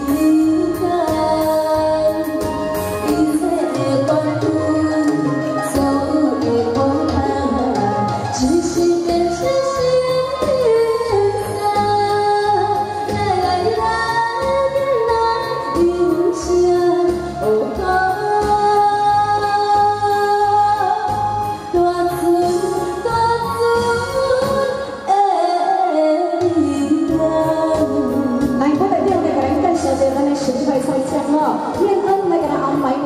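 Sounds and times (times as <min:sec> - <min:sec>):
instrumental backing with beat: 0:00.0 - 0:33.0
woman singing into microphone: 0:00.0 - 0:33.0.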